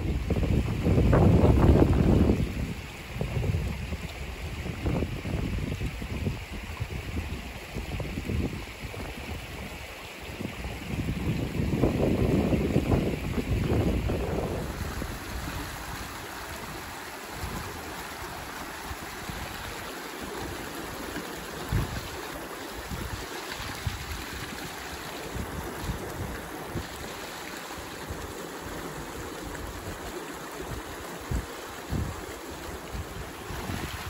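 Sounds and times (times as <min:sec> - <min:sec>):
wind buffeting microphone: 0:00.0 - 0:20.6, 0:21.4 - 0:22.2, 0:28.0 - 0:34.0
stream rushing over rocks: 0:00.0 - 0:34.0.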